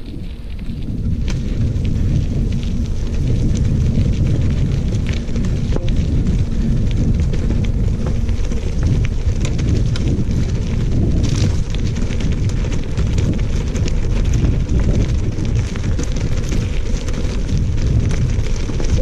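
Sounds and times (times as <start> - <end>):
gravel crackling and popping: 0.0 - 19.0
wind buffeting microphone: 0.0 - 19.0.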